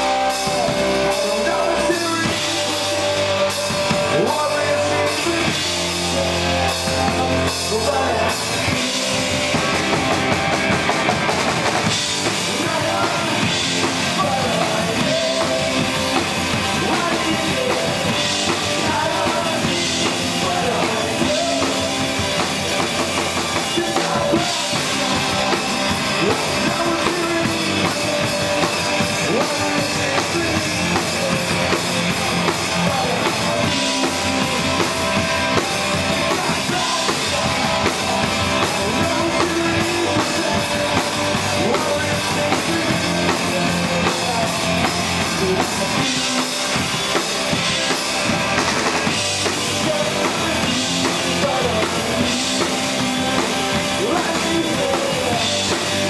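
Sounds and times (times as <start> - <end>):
man singing: 0.0 - 56.0
punk rock band playing: 0.0 - 56.0.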